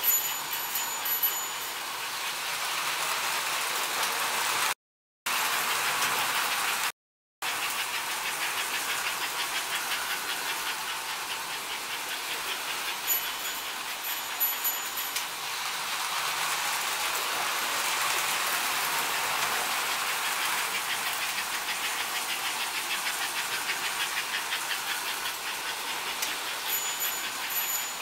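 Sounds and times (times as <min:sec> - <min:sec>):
fast clicking of train wheels: 0:00.0 - 0:28.0
model train electric hum: 0:00.0 - 0:28.0.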